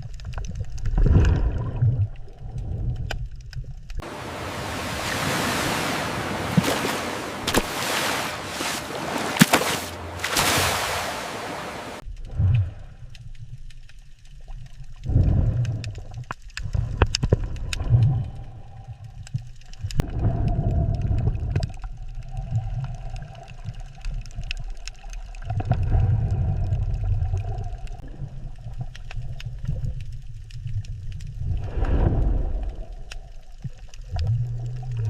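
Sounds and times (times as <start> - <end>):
low underwater rumble: 0.0 - 35.0.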